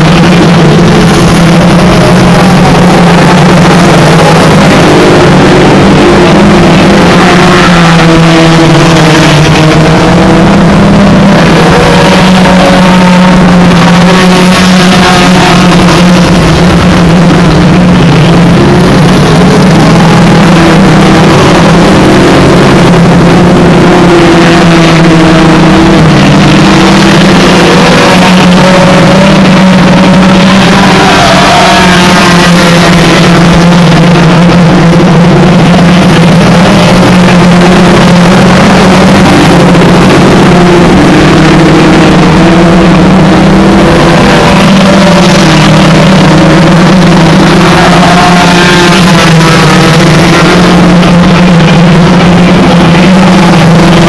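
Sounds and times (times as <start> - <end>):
low engine drone: 0.0 - 54.0
race car engines revving: 0.0 - 54.0.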